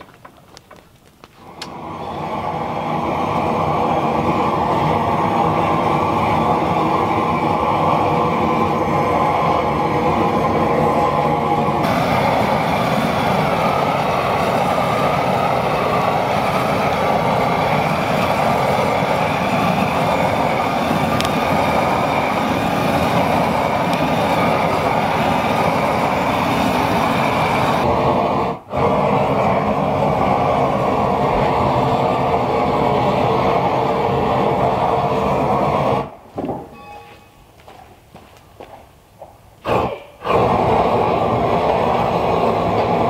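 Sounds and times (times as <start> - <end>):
electric sprayer motor drone: 1.4 - 36.1, 39.7 - 43.0.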